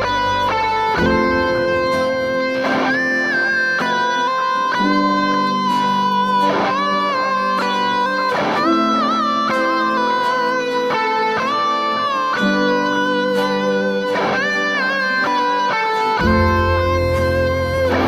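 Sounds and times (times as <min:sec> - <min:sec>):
electric guitar melody over chords: 0:00.0 - 0:18.0.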